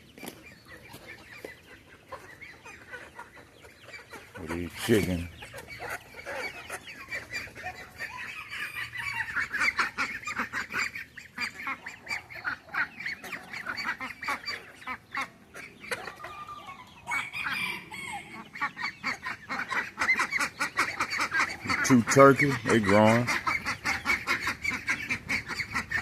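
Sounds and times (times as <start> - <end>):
ducks and chickens calling: 0.0 - 26.0.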